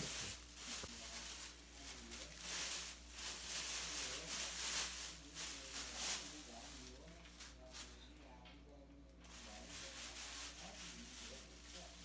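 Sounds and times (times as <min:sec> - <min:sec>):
plastic bag rustling: 0:00.0 - 0:08.1, 0:09.2 - 0:12.0.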